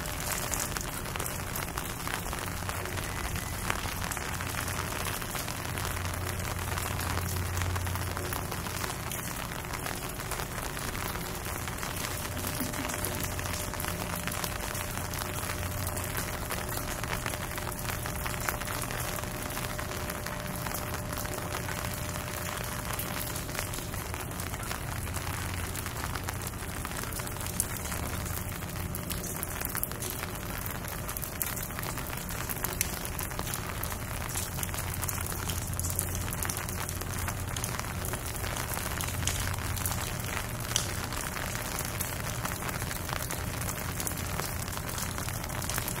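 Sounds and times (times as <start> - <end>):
low steady hum: 0.0 - 46.0
rain on hard surfaces: 0.0 - 46.0.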